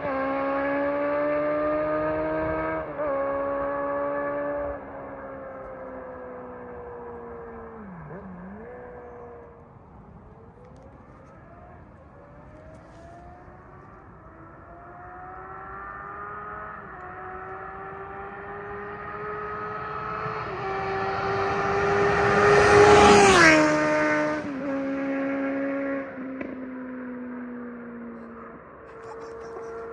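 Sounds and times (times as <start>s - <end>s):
motorcycle accelerating and passing: 0.0s - 29.9s.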